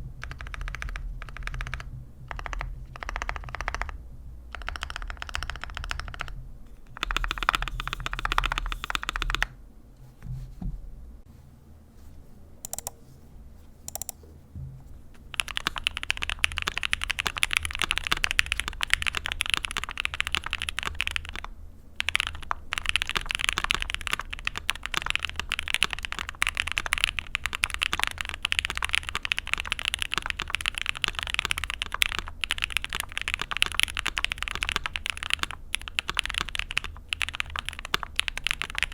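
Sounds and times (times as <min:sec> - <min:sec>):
mechanical keyboard typing: 0:00.2 - 0:09.5, 0:12.6 - 0:13.0, 0:13.9 - 0:14.2, 0:15.3 - 0:38.9.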